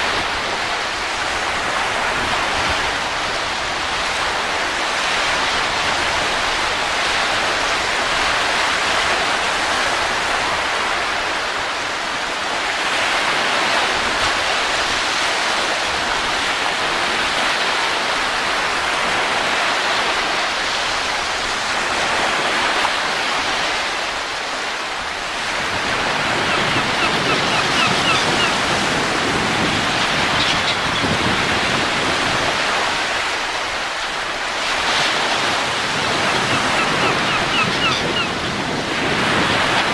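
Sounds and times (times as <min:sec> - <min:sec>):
wind rushing in gusts: 0:00.0 - 0:39.9.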